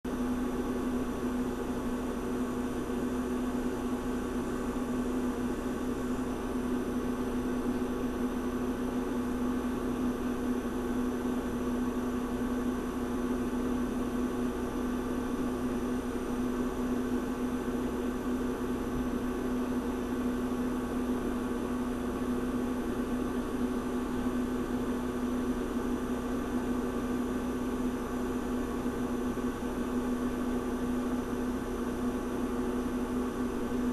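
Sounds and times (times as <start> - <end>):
refrigerator compressor hum: 0.0 - 33.9.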